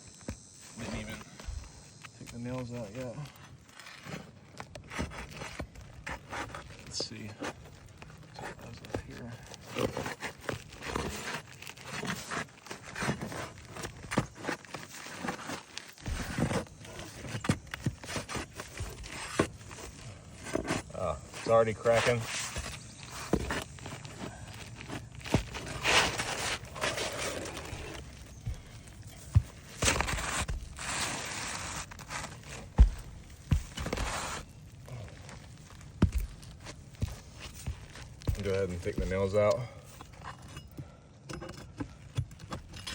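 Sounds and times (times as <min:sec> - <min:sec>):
roof shingles scraping and crackling: 0:00.6 - 0:40.6.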